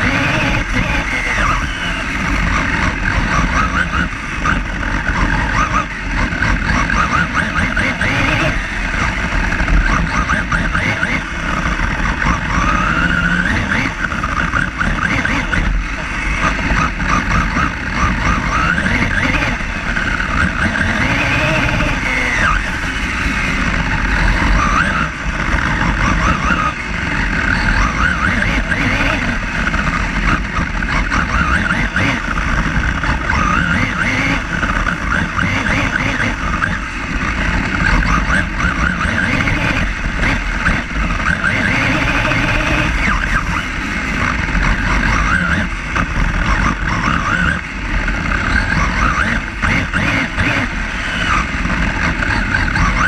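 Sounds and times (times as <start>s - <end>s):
rc car motor whine: 0.0s - 53.0s.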